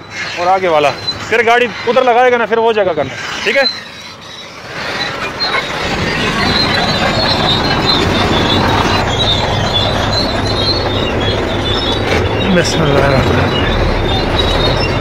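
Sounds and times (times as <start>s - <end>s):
truck engine humming: 0.0s - 15.0s
wavering high squeal: 0.0s - 15.0s.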